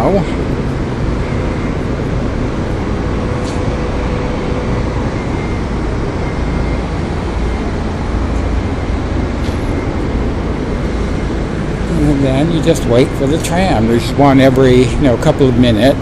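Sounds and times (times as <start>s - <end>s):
low rumble: 0.0s - 15.2s
faint steady hum: 0.0s - 16.0s.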